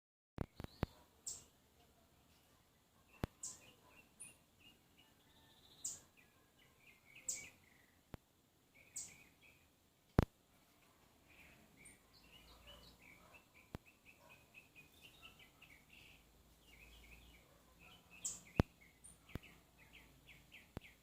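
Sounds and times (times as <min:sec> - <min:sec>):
songbirds high calls: 0:00.4 - 0:01.6, 0:02.2 - 0:08.1, 0:08.7 - 0:09.7, 0:10.6 - 0:21.0
soft bird chirps: 0:00.4 - 0:21.0.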